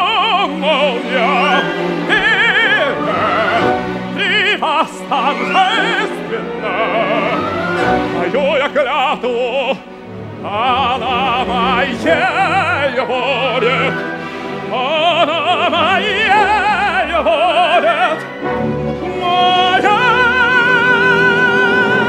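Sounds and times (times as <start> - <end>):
operatic tenor singing: 0.0 - 22.0
orchestra playing storm music: 0.0 - 22.0.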